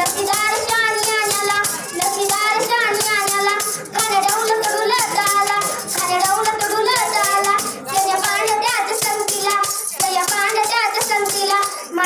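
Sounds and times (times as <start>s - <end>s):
boy singing into a microphone: 0.0s - 12.0s.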